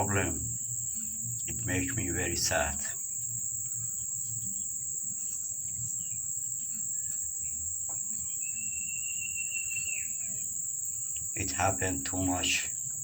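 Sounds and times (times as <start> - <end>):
high-pitched insect chirring: 0.0 - 13.0.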